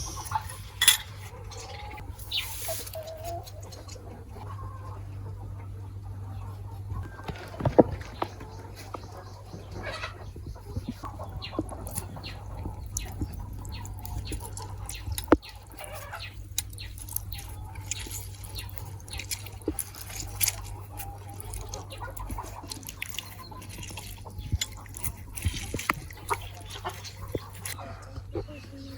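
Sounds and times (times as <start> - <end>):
chickens clucking: 0.0 - 28.9
steady low hum: 0.0 - 28.9.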